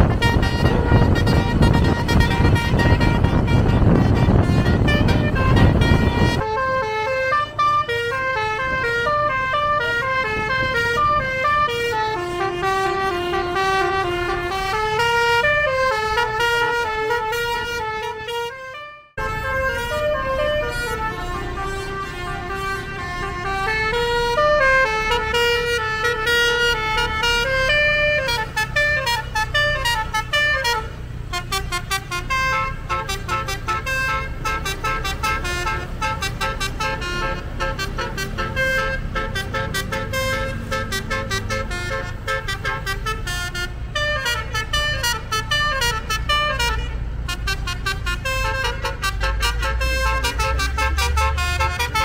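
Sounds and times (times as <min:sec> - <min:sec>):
bus engine rumble: 0:00.0 - 0:52.0
musical air horn melody: 0:00.0 - 0:52.0.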